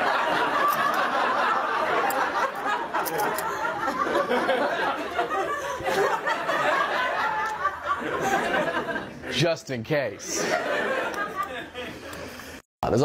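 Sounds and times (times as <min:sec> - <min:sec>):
audience laughing: 0:00.0 - 0:09.5, 0:10.2 - 0:12.4.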